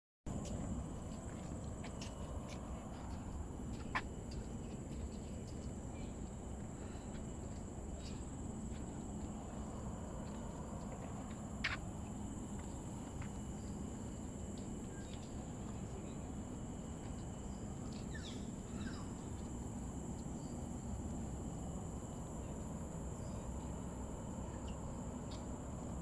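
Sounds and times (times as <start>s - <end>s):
high insect drone: 0.3s - 26.0s.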